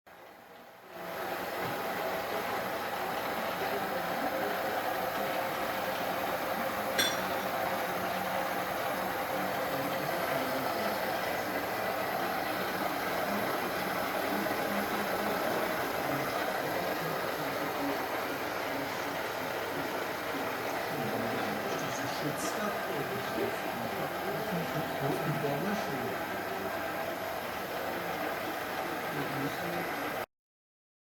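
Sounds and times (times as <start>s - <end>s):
milling machine running: 0.2s - 30.3s.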